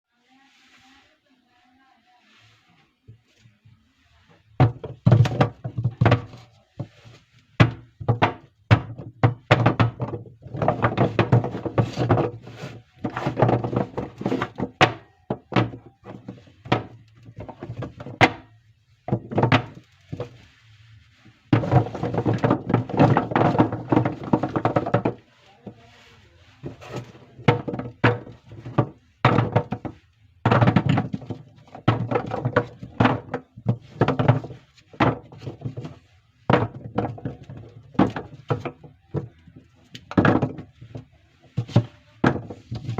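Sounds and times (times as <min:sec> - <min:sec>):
soap bars tapping and thunking: 0:04.4 - 0:20.5, 0:21.3 - 0:25.8, 0:26.6 - 0:42.9.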